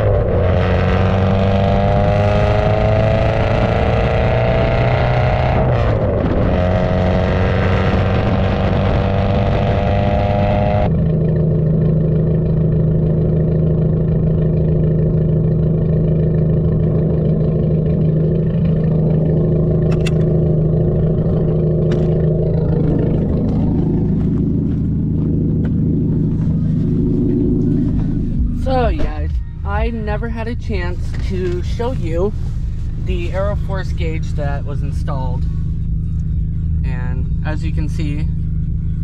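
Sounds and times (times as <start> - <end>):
car engine idling: 0.0 - 39.0
car exhaust: 0.0 - 39.0
road and wind noise: 0.0 - 39.0.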